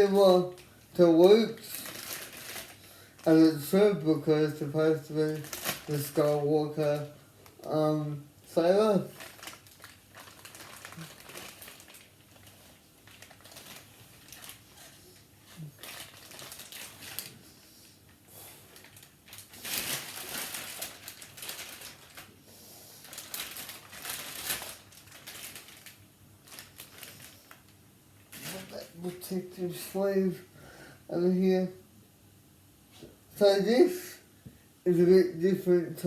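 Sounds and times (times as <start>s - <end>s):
plastic packaging crinkling: 0.0s - 22.4s, 23.0s - 30.0s.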